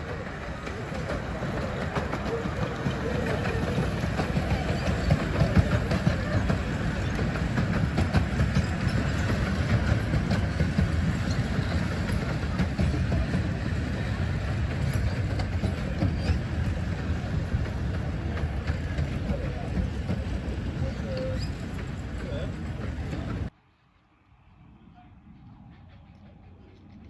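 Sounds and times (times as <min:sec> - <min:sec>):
wheels clicking over rail joints: 0:00.0 - 0:23.5
train carriages rumbling past: 0:00.0 - 0:27.0.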